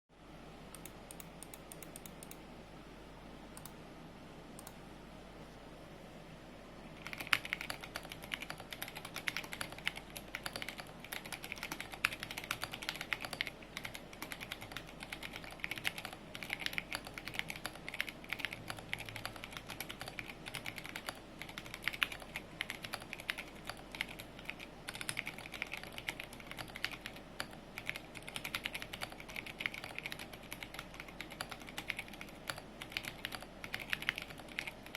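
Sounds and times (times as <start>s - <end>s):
mechanical keyboard typing: 0.8s - 2.4s, 7.0s - 34.9s.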